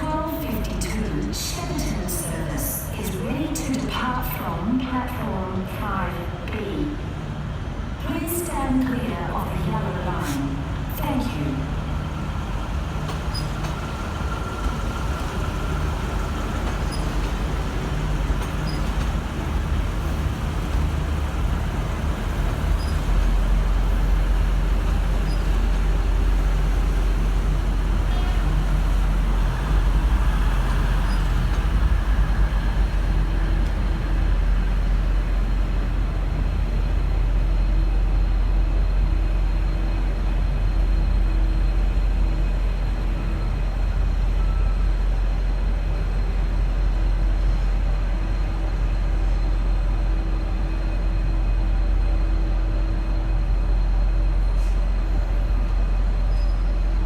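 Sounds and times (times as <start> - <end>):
diesel locomotive engine rumbling: 0.0 - 57.0.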